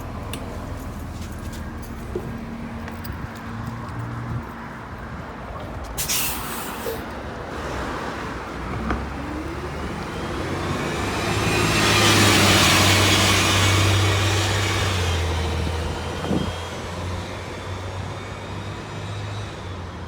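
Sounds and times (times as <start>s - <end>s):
bus engine accelerating: 0.0s - 20.0s.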